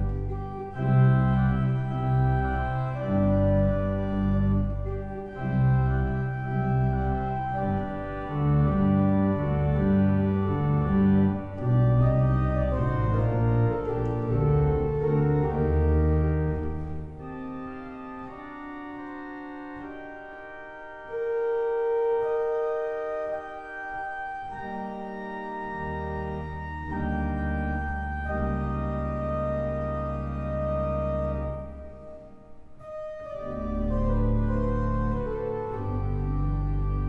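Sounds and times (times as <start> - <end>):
church organ playing: 0.0 - 37.0.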